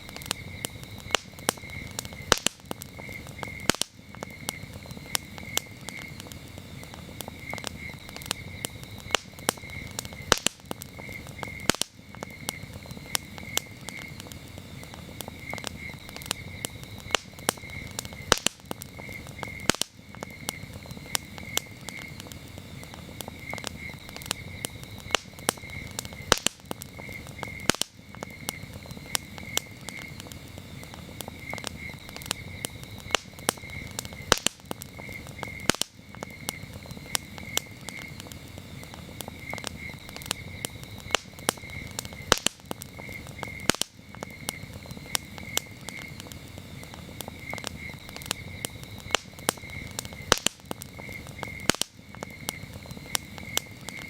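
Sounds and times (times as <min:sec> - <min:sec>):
campfire crackling and popping: 0:00.0 - 0:54.0
crickets chirping: 0:00.0 - 0:54.0.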